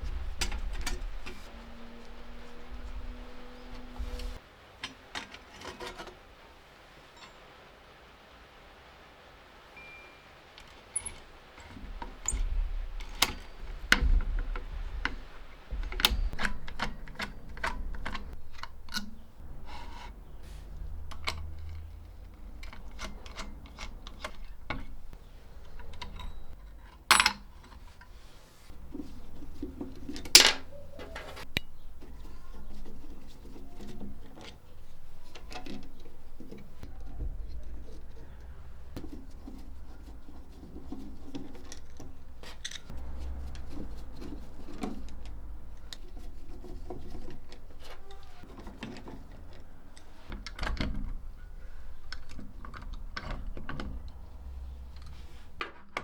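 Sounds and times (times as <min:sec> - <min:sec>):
metal parts clicking and clinking: 0:00.0 - 0:05.8, 0:10.6 - 0:28.1, 0:28.7 - 0:56.0
faint low hum: 0:00.0 - 0:07.6, 0:09.7 - 0:55.6.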